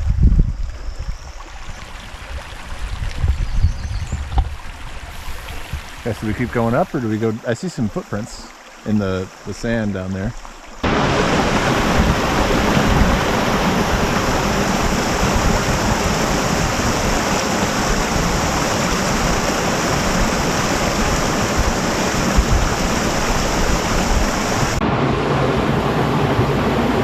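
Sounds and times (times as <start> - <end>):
waterfall rushing: 4.9 - 27.0.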